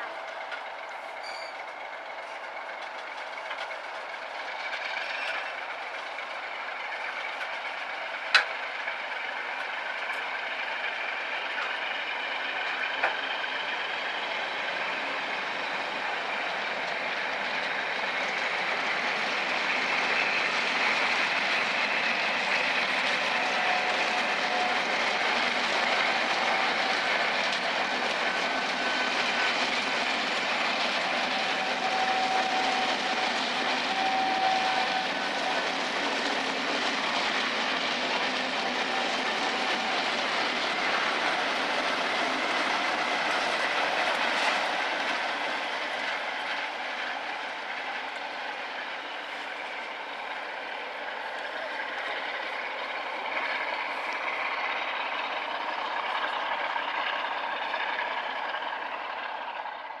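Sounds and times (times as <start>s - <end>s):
train rolling past: 0.0s - 60.0s.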